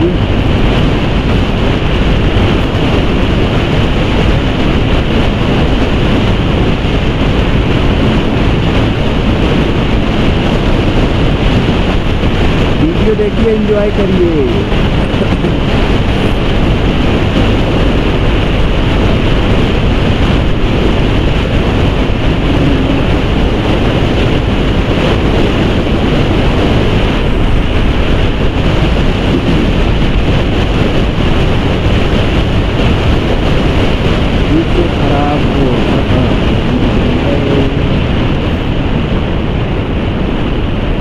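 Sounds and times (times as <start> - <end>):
motorcycle engine: 0.0 - 41.0
road noise: 0.0 - 41.0
wind rush on microphone: 0.0 - 41.0.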